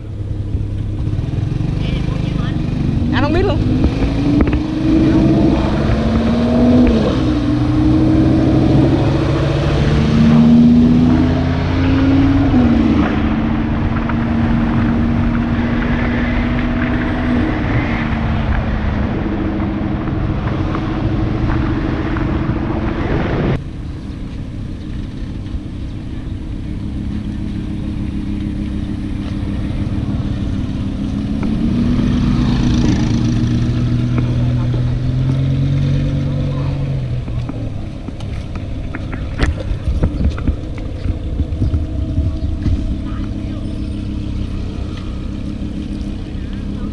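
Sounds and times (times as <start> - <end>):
sports car engine: 0.0 - 46.9.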